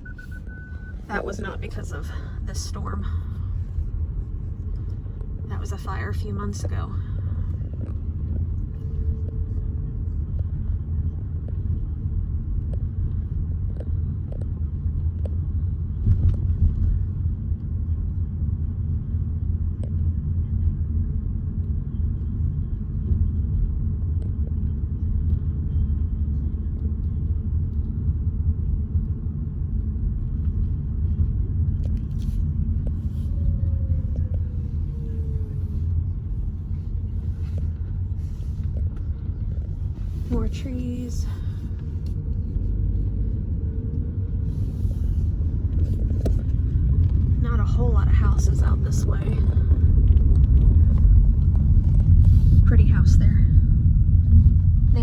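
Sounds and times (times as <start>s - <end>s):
car engine and tyre noise: 0.0s - 55.0s
faint falling whine: 0.0s - 55.0s.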